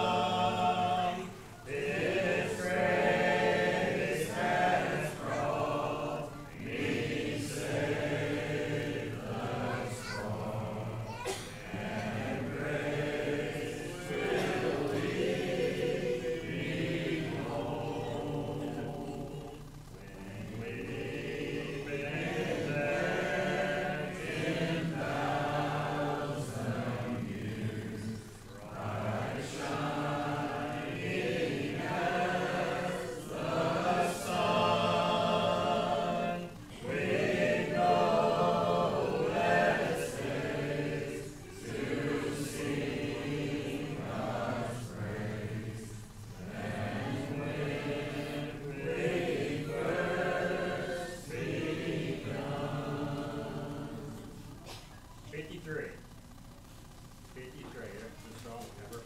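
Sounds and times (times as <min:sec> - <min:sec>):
congregation singing a hymn: 0:00.0 - 0:54.7.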